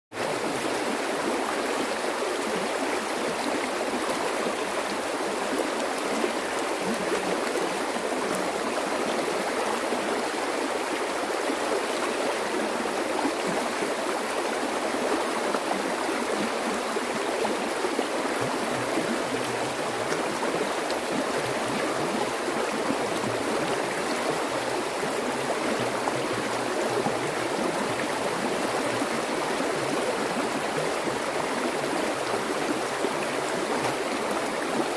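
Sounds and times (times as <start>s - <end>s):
flowing water: 0.1s - 34.9s.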